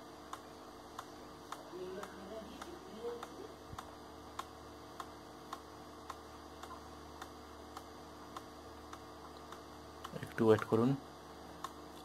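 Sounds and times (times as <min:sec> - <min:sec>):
faint regular ticking: 0:00.0 - 0:12.0
low electrical hum: 0:00.0 - 0:12.0.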